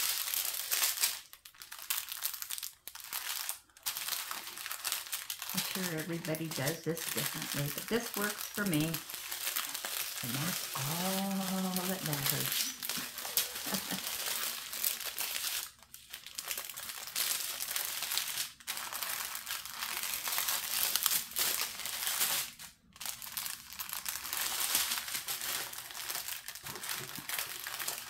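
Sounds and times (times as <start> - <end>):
plastic film crinkling: 0.0 - 28.0.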